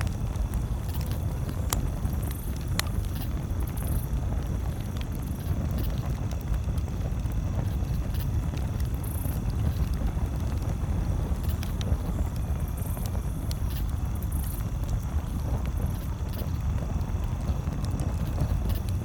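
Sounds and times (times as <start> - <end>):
campfire crackling and popping: 0.0 - 19.0
steady low rumble: 0.0 - 19.0.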